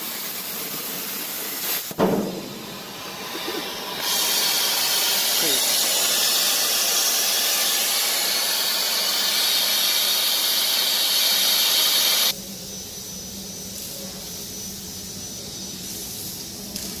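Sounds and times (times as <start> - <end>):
plasma arc hissing: 0.0 - 17.0.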